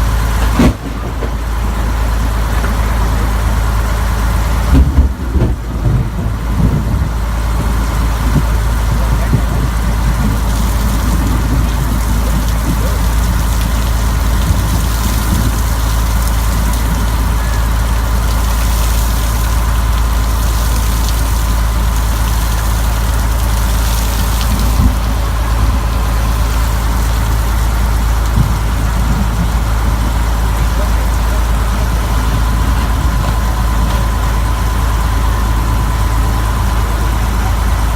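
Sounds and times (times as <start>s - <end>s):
low rumble: 0.0s - 37.9s
rain falling on a boat: 0.0s - 37.9s.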